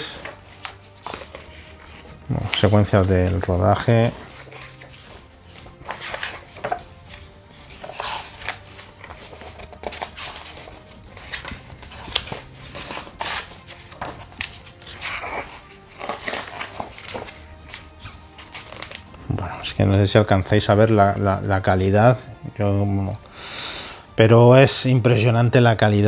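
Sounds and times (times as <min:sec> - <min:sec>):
book pages being turned: 0:00.0 - 0:21.6
soft background music: 0:00.0 - 0:26.0.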